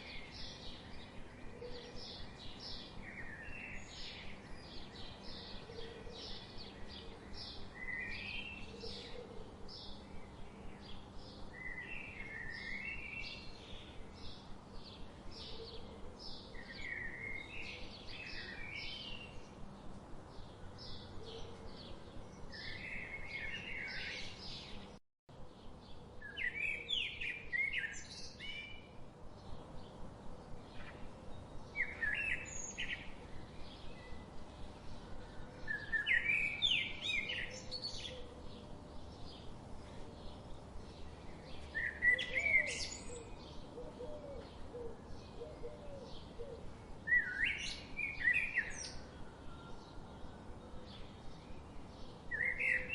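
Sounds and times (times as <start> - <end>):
warbling birdsong: 0.0 - 52.9.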